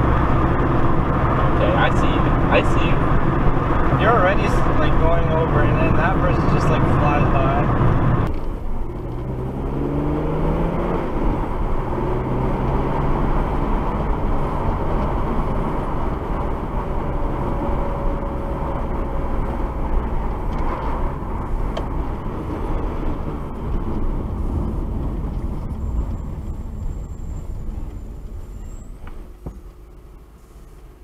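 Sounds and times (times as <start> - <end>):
car engine: 0.0 - 31.0
road noise: 0.0 - 31.0.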